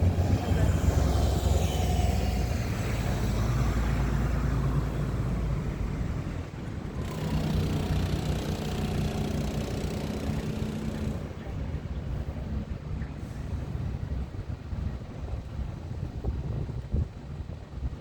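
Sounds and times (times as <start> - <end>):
bus engine rumbling and idling: 0.0 - 18.0.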